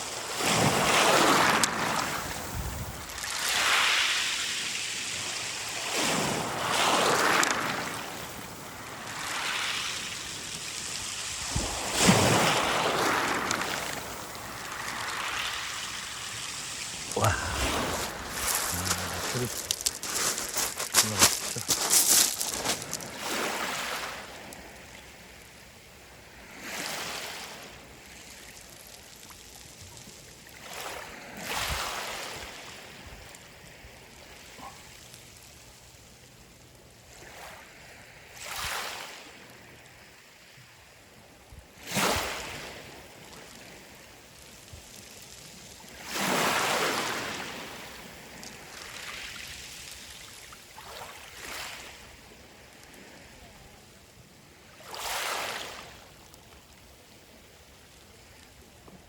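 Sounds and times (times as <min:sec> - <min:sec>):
waves washing over pebbles: 0:00.0 - 0:40.0, 0:41.7 - 0:58.8.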